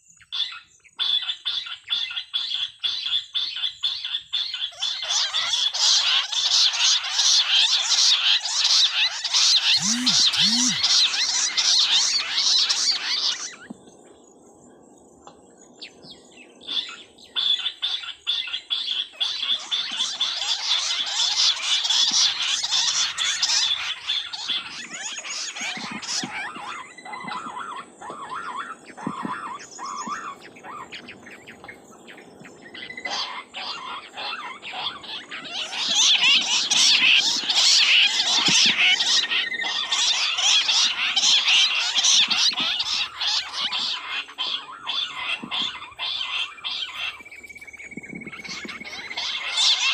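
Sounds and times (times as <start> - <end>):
quails chirping: 0.4 - 14.2, 15.2 - 49.9.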